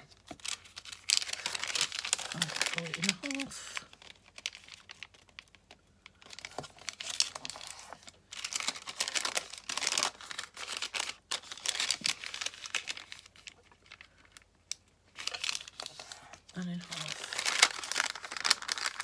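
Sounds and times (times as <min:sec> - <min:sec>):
paper crinkling and rustling: 0:00.0 - 0:14.5, 0:15.1 - 0:19.0.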